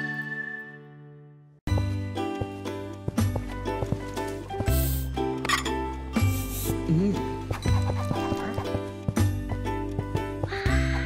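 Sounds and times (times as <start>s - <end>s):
cartoon background music: 0.0s - 11.0s.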